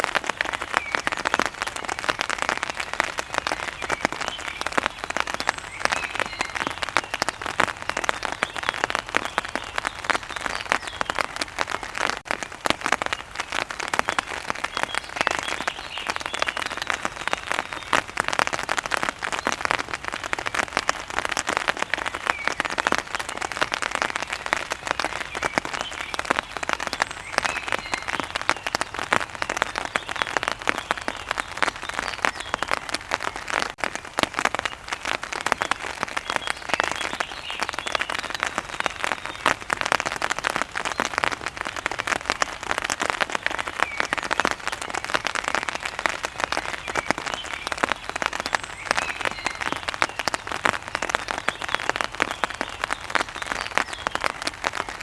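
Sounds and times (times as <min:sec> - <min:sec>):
heavy rain on hard surface: 0:00.0 - 0:55.0.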